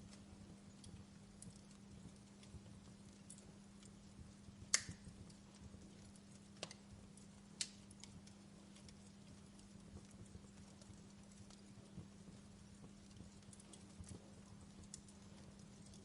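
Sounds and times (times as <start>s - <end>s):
wood fire crackling: 0.0s - 16.0s
sharp pops from fire: 0.1s - 16.0s.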